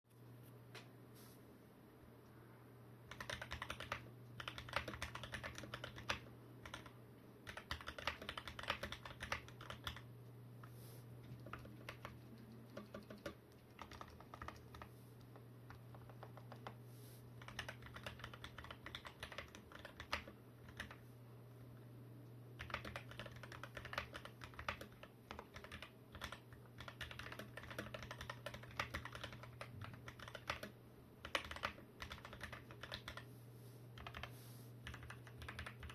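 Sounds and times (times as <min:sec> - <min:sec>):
mechanical keyboard typing: 0:03.1 - 0:10.1, 0:11.2 - 0:16.8, 0:17.4 - 0:21.0, 0:22.6 - 0:33.3, 0:34.0 - 0:35.9.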